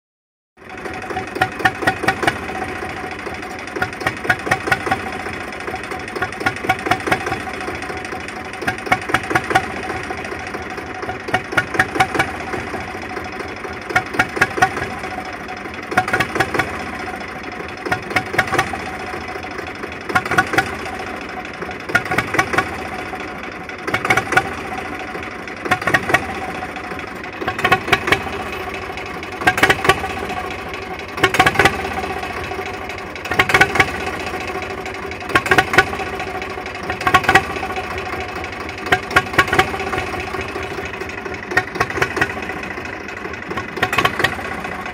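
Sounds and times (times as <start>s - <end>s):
engine idling roughly: 0.6s - 44.9s.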